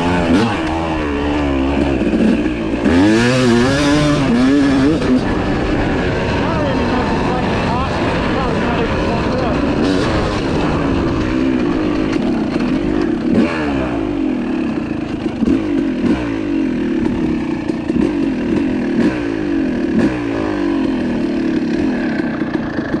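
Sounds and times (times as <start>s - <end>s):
clatter: 0.0s - 5.4s, 7.3s - 23.0s
dirt bike engine revving: 0.0s - 23.0s.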